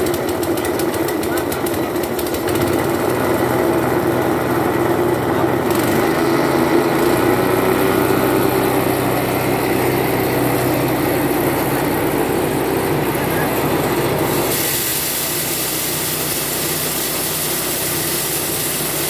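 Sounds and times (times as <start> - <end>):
petrol engine running: 0.0 - 19.0.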